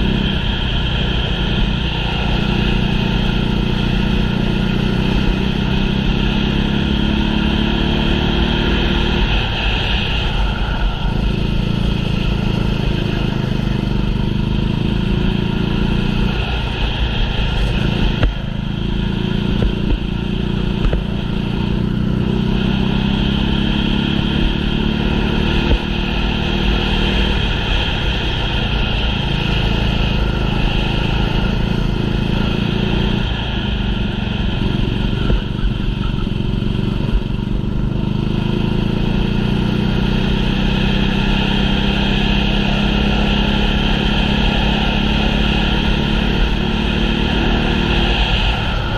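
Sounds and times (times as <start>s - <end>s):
kart engine revving: 0.0s - 48.9s.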